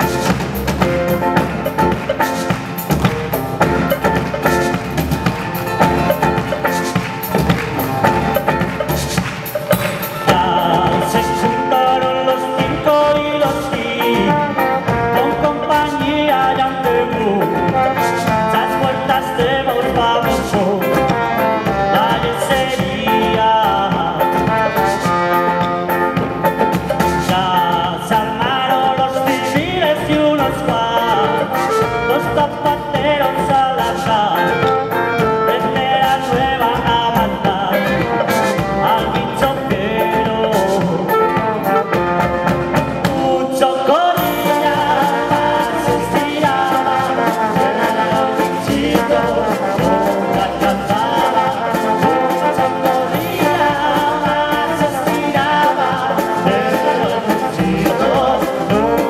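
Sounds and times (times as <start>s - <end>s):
percussion beat: 0.0s - 59.0s
strummed guitars: 0.0s - 59.0s
trombone and woodwind melody: 9.8s - 27.7s, 28.7s - 59.0s.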